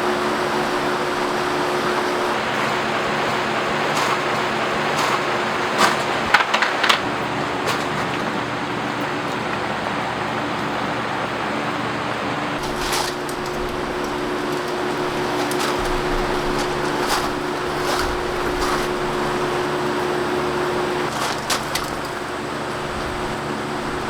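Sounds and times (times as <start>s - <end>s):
rain on tent fabric: 0.0s - 10.9s, 12.5s - 24.0s.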